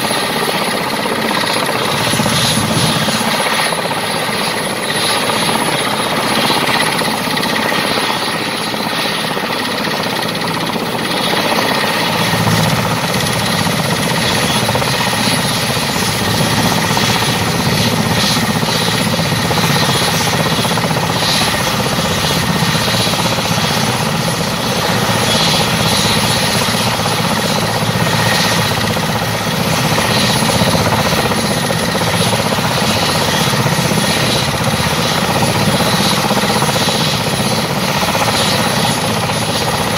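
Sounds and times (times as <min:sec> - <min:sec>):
helicopter engines whining: 0:00.0 - 0:39.9
helicopter rotor turning: 0:00.0 - 0:39.9.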